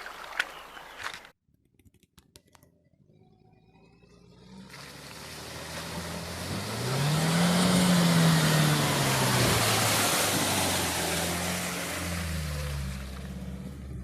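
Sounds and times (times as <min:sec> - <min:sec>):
car engine revving: 0:02.7 - 0:14.0.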